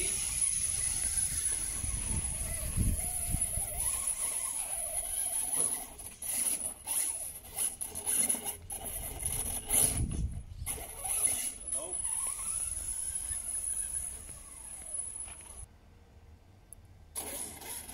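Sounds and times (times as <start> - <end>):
dirt crunches: 0.0 - 15.7
rc car motor and gears whining: 0.0 - 15.7, 17.2 - 17.9
tyres scrabbling on dirt: 0.0 - 15.7.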